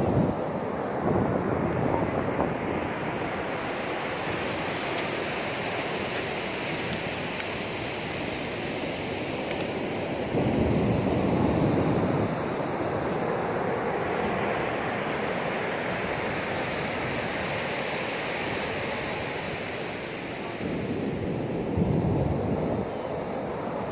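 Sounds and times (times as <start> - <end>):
ocean surf washing on beach: 0.0 - 23.9.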